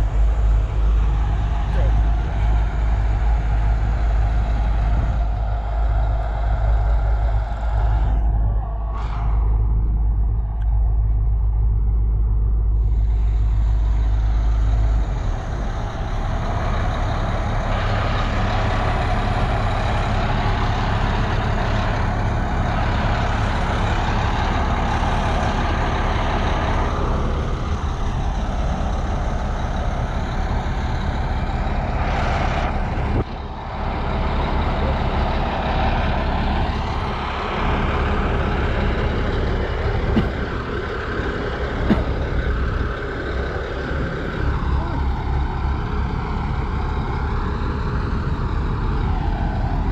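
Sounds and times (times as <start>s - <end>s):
bulldozer diesel engine under load: 0.0s - 49.9s.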